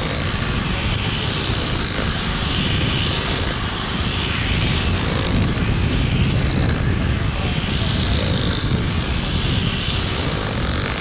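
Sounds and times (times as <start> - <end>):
loud rumbling noise: 0.0 - 11.0.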